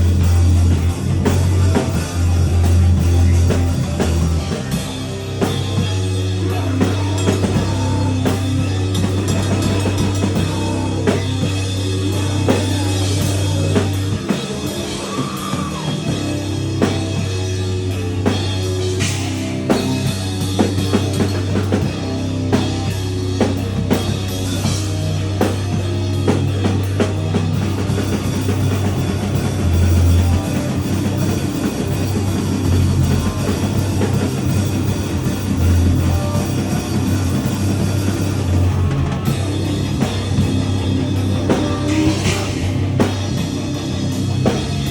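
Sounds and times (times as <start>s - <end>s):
distorted electric guitar: 0.0s - 44.9s
drum kit with cymbal and snare hits: 0.0s - 44.9s
heavy bass: 0.0s - 44.9s.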